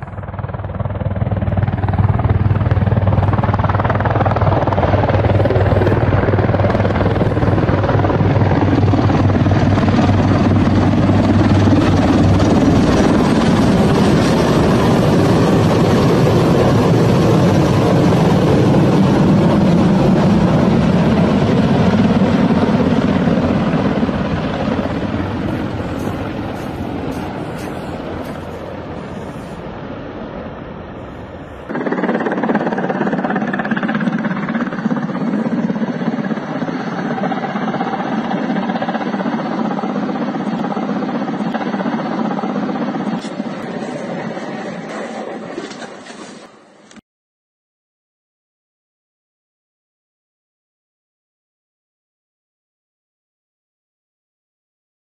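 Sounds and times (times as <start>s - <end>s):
helicopter flying overhead: 0.0s - 47.0s.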